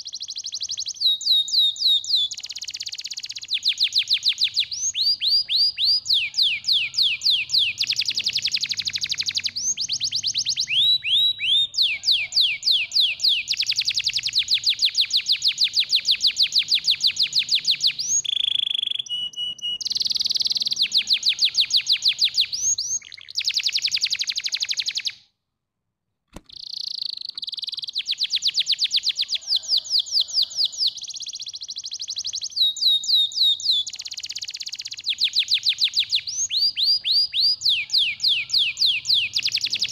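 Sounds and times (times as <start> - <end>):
canary singing fast trills: 0.0 - 25.2, 26.5 - 39.9.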